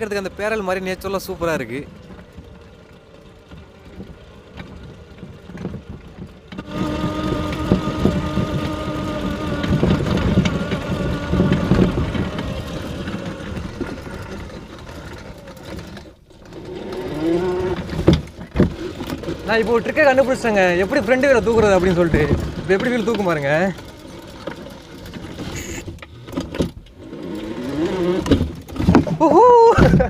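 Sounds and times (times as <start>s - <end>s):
electric motor whining: 0.0s - 29.1s
frame and wheels knocking: 0.0s - 30.0s.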